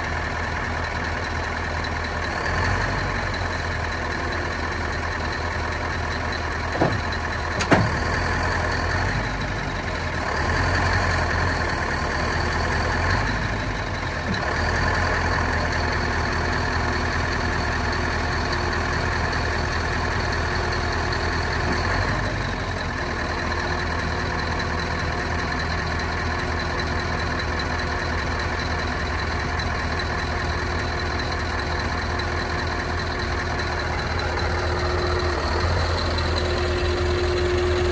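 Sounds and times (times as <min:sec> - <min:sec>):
truck diesel engine running: 0:00.0 - 0:37.9.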